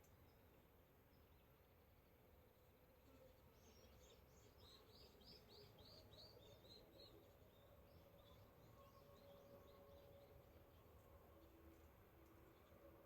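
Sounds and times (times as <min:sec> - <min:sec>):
faint bird song: 0:00.0 - 0:13.0.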